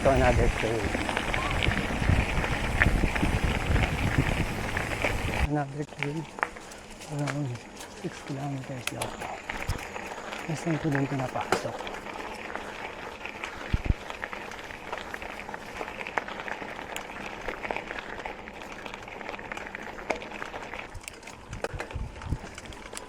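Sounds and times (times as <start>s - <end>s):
bike clicks and rattles: 0.0s - 23.0s
bike tyres on dirt trail: 0.0s - 23.0s.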